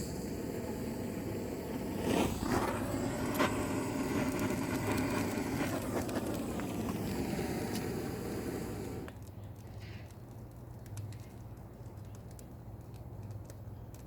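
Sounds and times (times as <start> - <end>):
flame rushing: 0.0 - 13.7
fire crackling and popping: 0.0 - 14.0.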